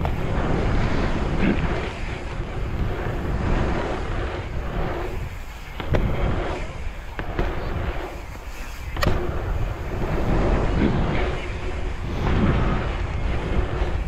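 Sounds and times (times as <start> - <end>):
bicycle tyres humming on asphalt: 0.0 - 14.0
wind buffeting microphone: 0.0 - 14.0.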